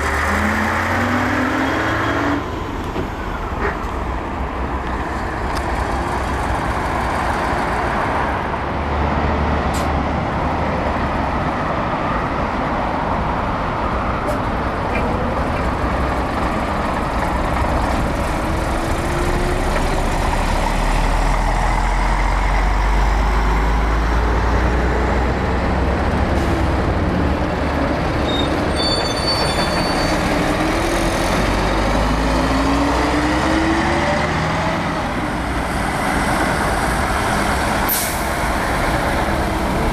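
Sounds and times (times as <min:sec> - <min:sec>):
diesel trucks driving past: 0:00.0 - 0:39.9.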